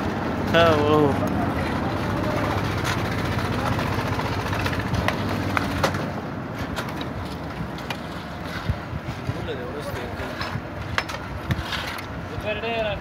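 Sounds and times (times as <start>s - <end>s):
construction machinery rumbling: 0.0s - 13.0s.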